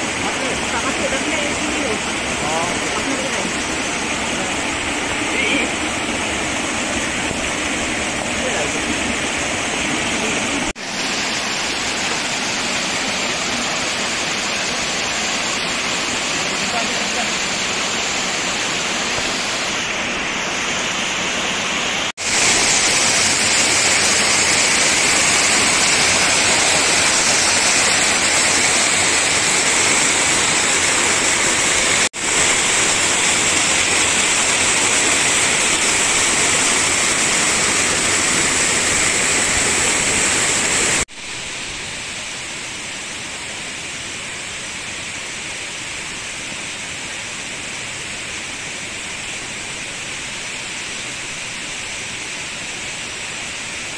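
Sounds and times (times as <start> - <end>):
waterfall rushing and splashing: 0.0 - 53.9.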